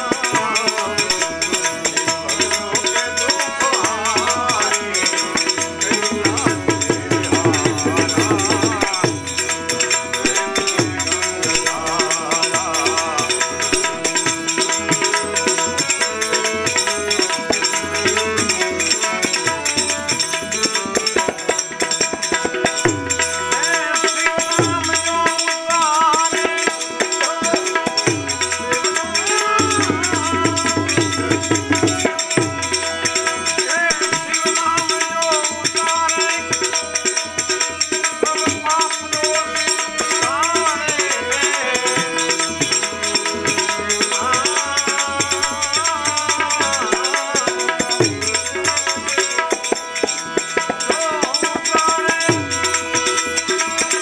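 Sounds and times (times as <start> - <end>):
harmonium: 0.0 - 54.0
man singing: 0.0 - 54.0
tabla: 0.0 - 54.0.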